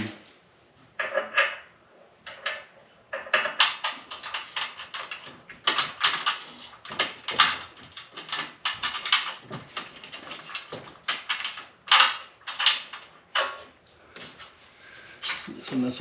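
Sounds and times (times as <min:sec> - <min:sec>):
hardware scraping and knocking: 0:00.9 - 0:15.8.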